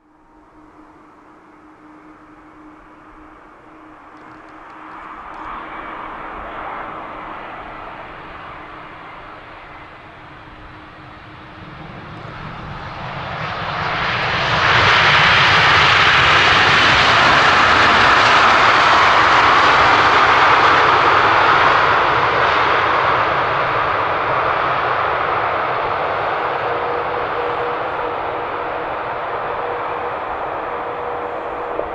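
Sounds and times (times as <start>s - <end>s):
jet airliner passing close: 0.0s - 31.9s.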